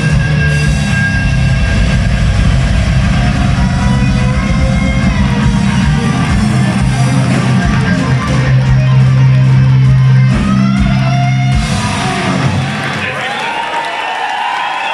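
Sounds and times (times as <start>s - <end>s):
bass and drums: 0.0s - 13.2s
distorted electric guitars: 0.0s - 13.6s.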